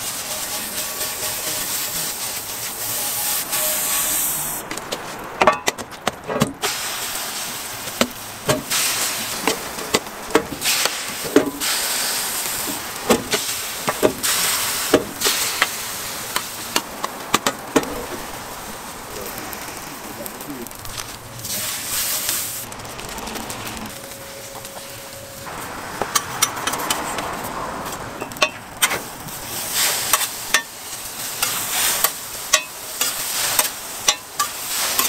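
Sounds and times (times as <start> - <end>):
batter sizzling on a griddle: 0.0 - 5.2, 6.6 - 35.0.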